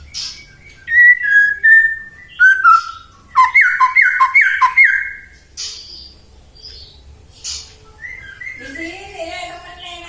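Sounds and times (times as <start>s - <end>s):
songbird whistling song: 0.0s - 8.9s.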